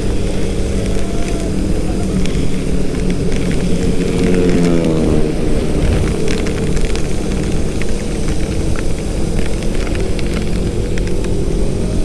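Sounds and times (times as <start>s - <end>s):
heavy wind noise: 0.0s - 12.0s
scooter engine running: 0.0s - 12.0s.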